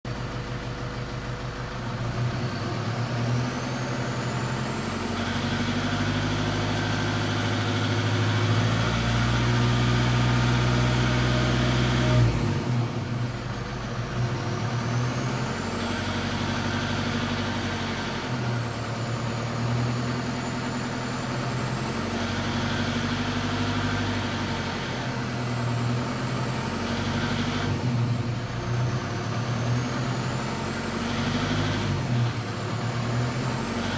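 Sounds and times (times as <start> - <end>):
diesel engine accelerating: 0.0 - 33.9.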